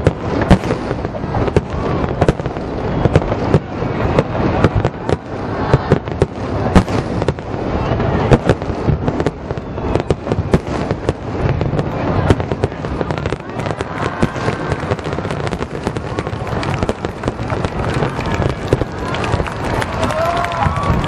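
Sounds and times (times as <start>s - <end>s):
continuous rumble: 0.0s - 21.0s
firework crackling: 0.0s - 21.0s
firework shells booming: 0.0s - 21.0s.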